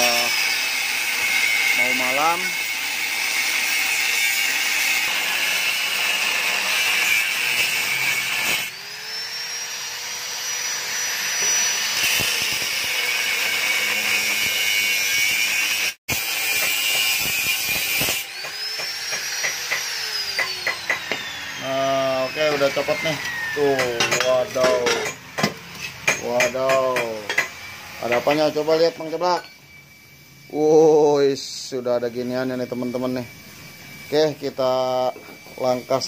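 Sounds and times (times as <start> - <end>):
angle grinder cutting metal pipe: 0.0 - 36.0.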